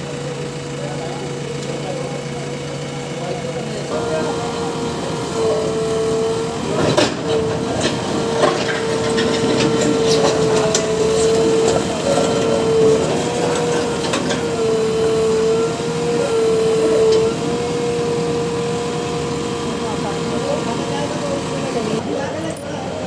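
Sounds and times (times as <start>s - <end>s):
excavator engine whine: 0.0s - 23.0s.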